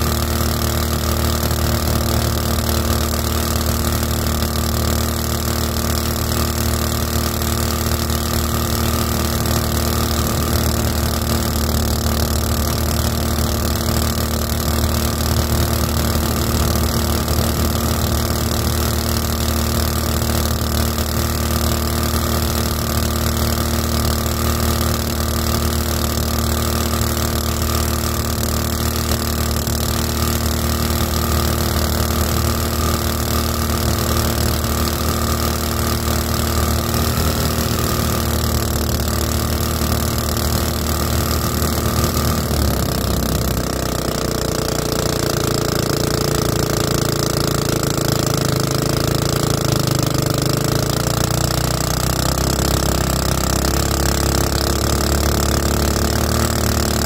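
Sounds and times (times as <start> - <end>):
small boat motor running: 0.0 - 57.0.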